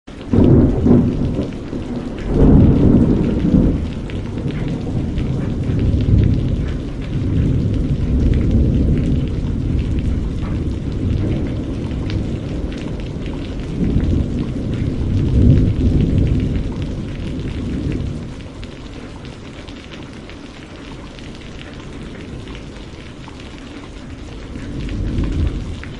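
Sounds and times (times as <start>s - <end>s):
steady rain: 0.1s - 25.9s
low rolling thunder: 0.2s - 25.9s.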